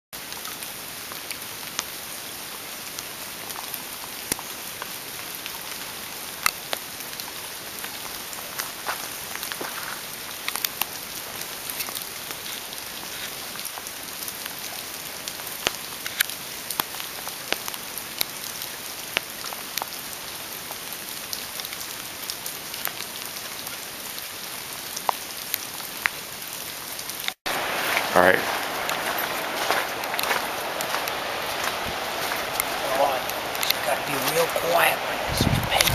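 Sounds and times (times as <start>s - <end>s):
rain on foliage: 0.2s - 35.9s.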